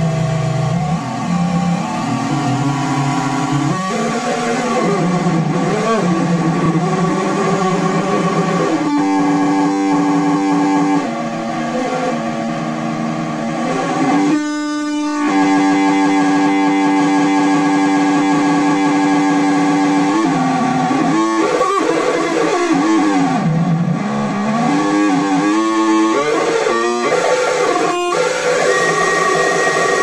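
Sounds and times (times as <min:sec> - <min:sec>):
buzzy synth tones: 0:00.0 - 0:30.0.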